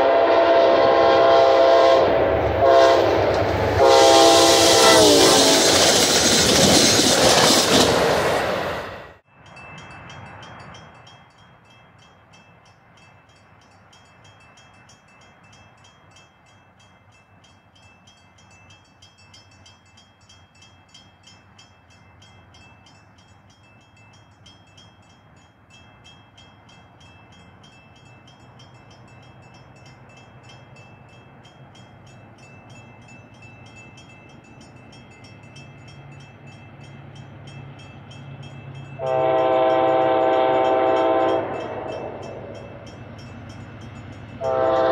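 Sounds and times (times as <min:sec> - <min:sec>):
low rumble of approaching train: 0:00.0 - 0:44.9.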